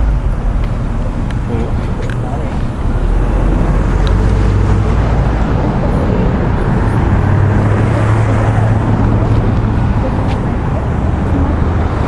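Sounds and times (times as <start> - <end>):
traffic noise: 0.0 - 12.0
vehicle engine running: 0.0 - 12.0.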